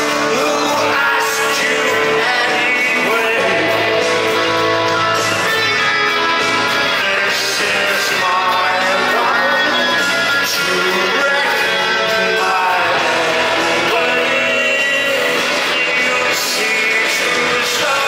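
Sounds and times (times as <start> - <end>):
drums: 0.0 - 18.0
electric guitar: 0.0 - 18.0
man singing: 0.0 - 18.0.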